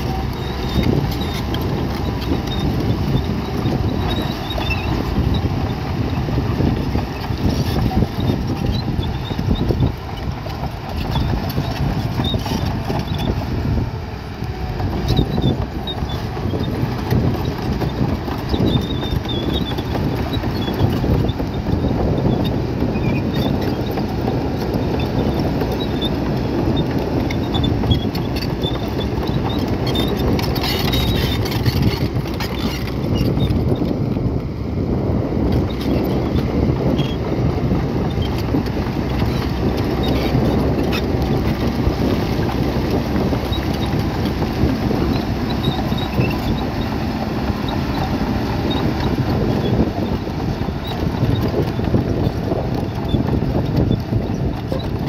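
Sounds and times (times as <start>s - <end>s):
heavy machinery engine under load: 0.0s - 55.0s.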